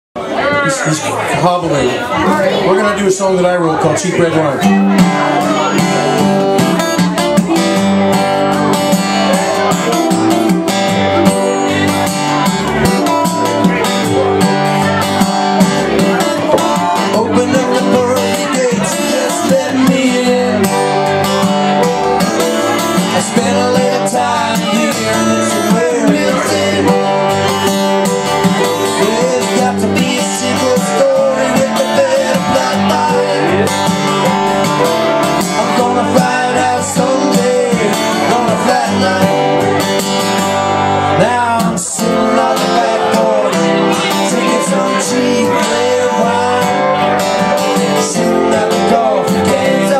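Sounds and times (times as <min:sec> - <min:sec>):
acoustic guitars strumming: 0:00.2 - 0:49.9.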